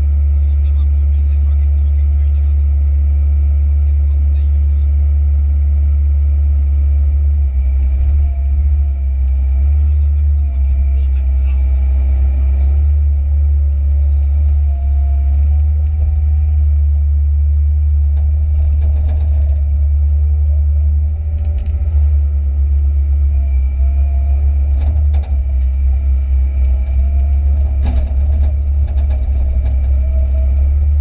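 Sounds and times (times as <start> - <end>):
excavator diesel engine drone: 0.0 - 31.0
wavering high whine: 0.0 - 31.0.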